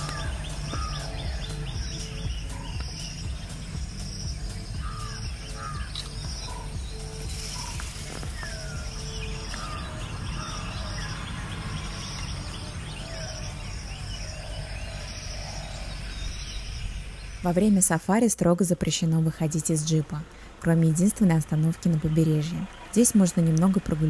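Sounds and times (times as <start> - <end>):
low rumble: 0.0 - 23.9
birds chirping: 0.0 - 24.0.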